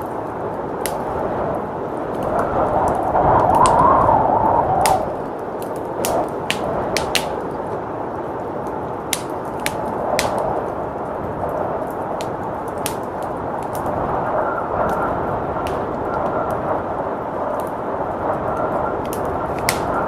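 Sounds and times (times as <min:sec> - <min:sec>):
blizzard wind rushing: 0:00.0 - 0:20.0
wood fire crackling: 0:00.0 - 0:20.0.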